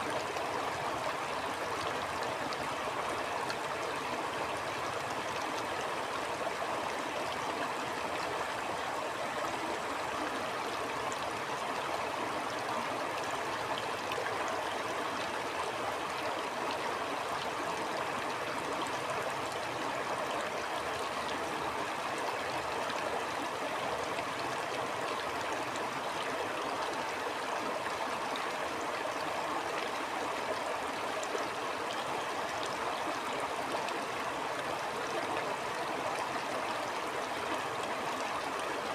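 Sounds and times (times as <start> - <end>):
stream water gurgling: 0.0 - 38.9.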